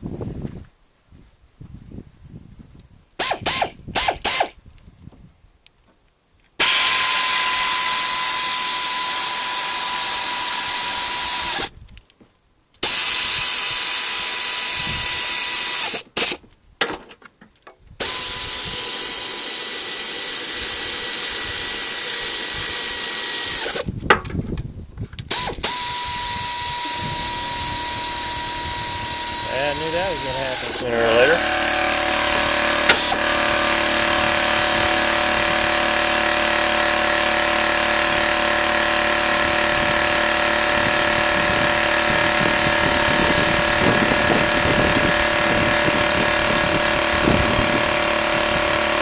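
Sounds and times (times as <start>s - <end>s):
air ratchet whining: 3.2s - 4.6s, 6.6s - 11.7s, 12.8s - 16.4s, 18.0s - 24.6s, 25.2s - 49.0s.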